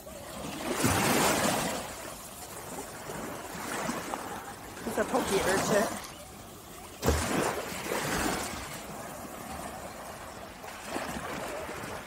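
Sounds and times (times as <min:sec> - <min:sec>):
small wave washing onto sand: 0:00.0 - 0:12.0.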